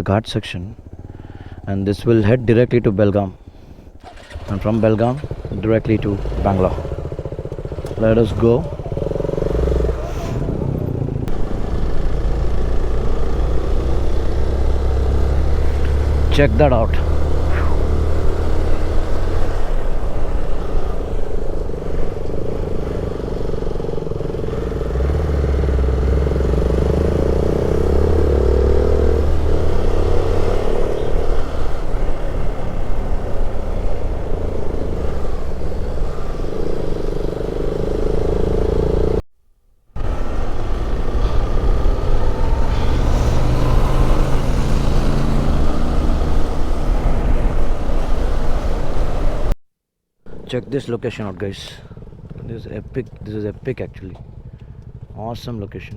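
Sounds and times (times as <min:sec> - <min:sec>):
motorcycle engine running: 0:00.7 - 0:02.4, 0:03.4 - 0:39.2, 0:40.0 - 0:49.5, 0:50.3 - 0:55.9.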